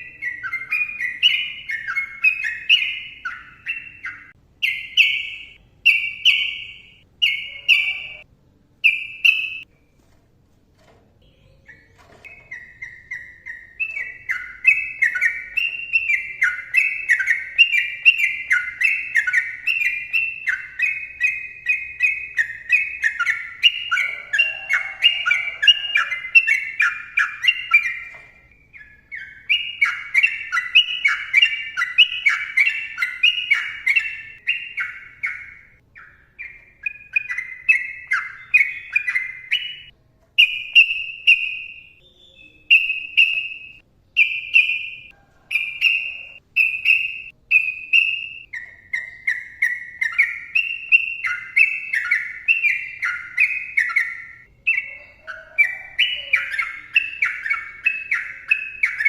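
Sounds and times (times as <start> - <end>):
bird rapid chattering song: 0.0 - 8.2, 11.2 - 59.0.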